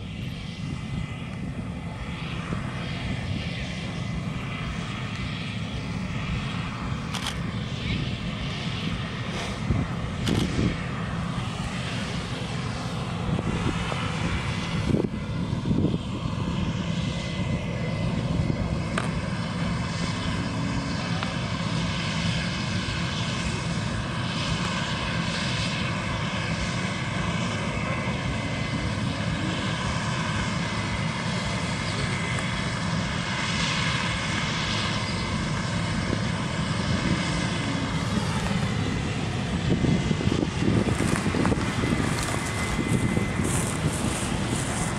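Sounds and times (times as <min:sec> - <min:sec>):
combine harvester droning: 0:00.0 - 0:44.9.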